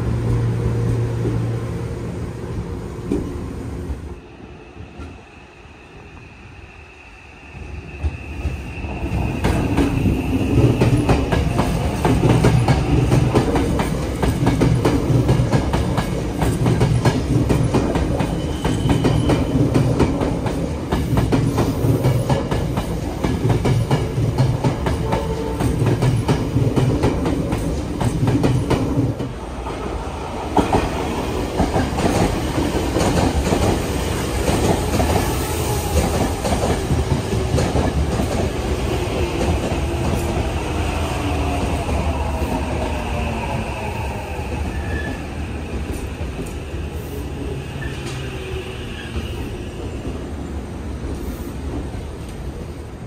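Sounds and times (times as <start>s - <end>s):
electric train rumbling: 0.0s - 53.0s.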